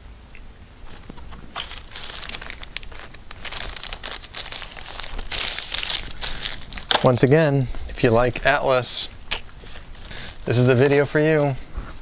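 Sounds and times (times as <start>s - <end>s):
plastic bag crinkling: 0.8s - 11.6s.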